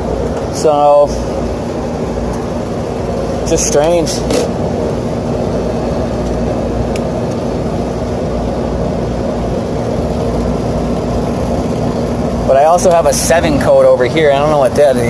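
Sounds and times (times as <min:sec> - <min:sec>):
air conditioning unit humming: 0:00.0 - 0:15.0.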